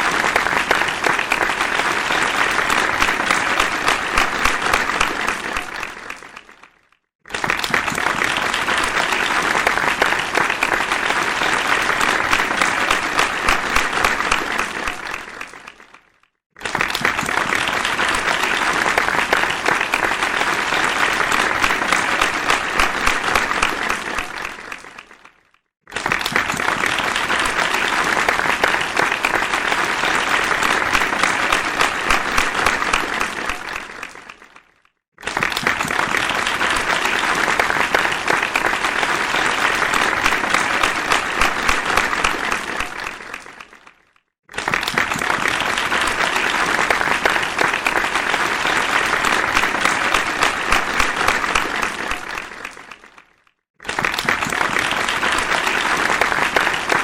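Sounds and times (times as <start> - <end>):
audience applause: 0.0 - 57.0.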